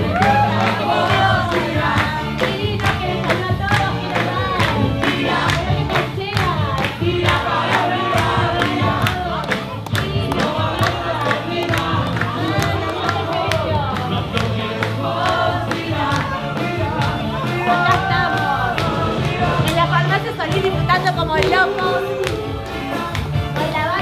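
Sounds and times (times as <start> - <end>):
audience clapping along: 0.0 - 24.0
live rock band playing: 0.0 - 24.0
person singing: 0.0 - 24.0.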